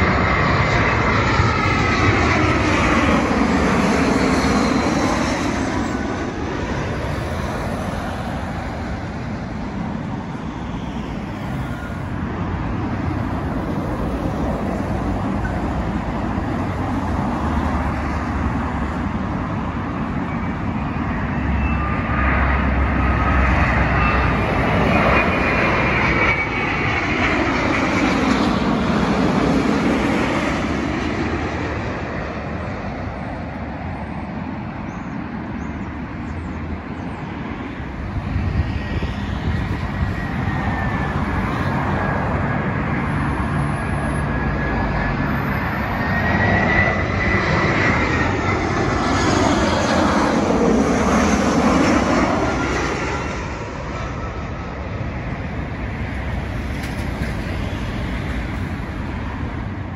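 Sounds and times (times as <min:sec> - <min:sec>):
jet aircraft passing overhead: 0:00.0 - 0:59.9
road traffic: 0:00.0 - 0:59.9.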